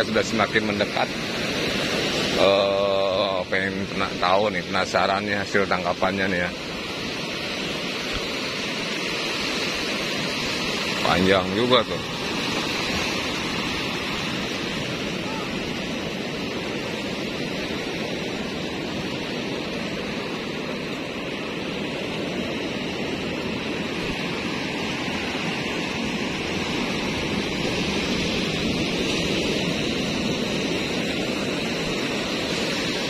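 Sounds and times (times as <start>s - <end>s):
surf washing up beach: 0.0s - 33.0s.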